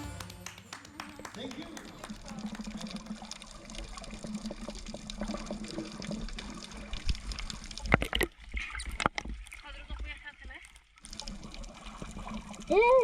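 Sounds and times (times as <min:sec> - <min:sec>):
water sloshing and gurgling: 0:02.3 - 0:13.0.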